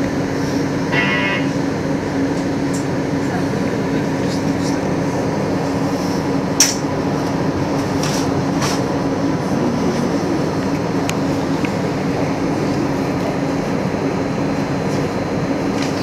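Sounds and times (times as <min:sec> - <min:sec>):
low equipment hum: 0:00.0 - 0:16.0
tram wheel-and-rail rumble: 0:00.0 - 0:16.0.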